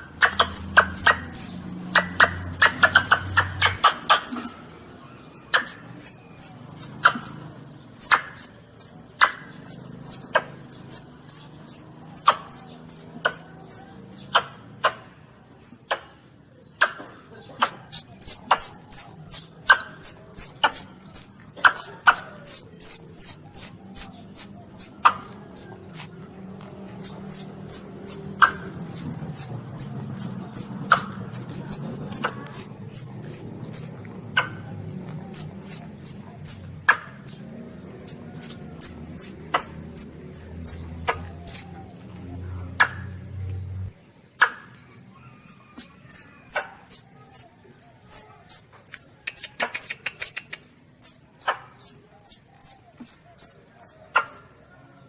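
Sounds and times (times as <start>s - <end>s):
baby civet high squeaks: 0.2s - 4.5s, 5.2s - 14.5s, 17.6s - 26.2s, 26.9s - 41.9s, 45.2s - 54.4s.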